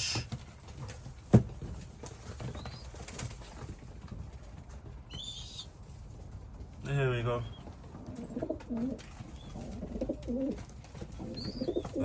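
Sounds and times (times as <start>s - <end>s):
pigeons flapping: 0.0s - 12.0s.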